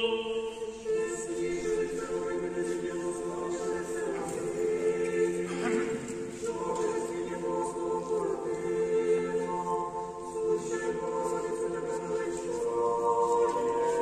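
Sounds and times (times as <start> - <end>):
choir chanting: 0.0 - 14.0.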